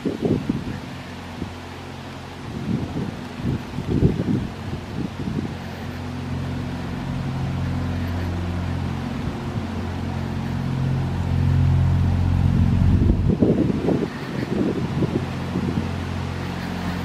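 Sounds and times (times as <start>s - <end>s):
boat engine humming: 0.0s - 17.0s
wind buffeting microphone: 0.0s - 17.0s.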